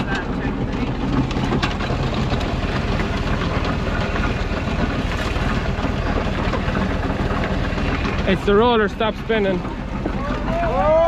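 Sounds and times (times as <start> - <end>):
harvester chains clattering: 0.0 - 11.0
tractor engine hum: 0.0 - 11.0.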